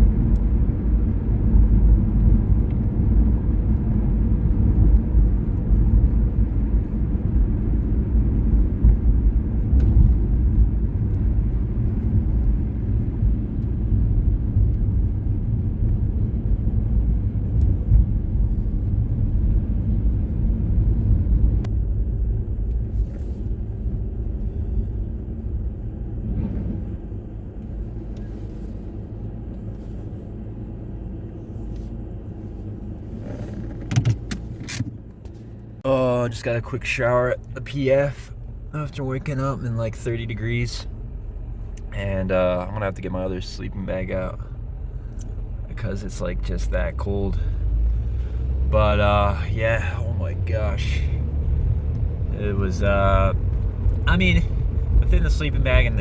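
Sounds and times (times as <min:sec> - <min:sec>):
car rumbling on the move: 0:00.0 - 0:56.0.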